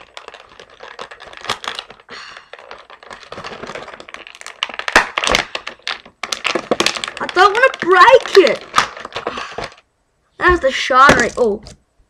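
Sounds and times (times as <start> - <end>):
loud plastic cracks: 0.0 - 9.8
plastic packaging crackling: 0.0 - 11.8.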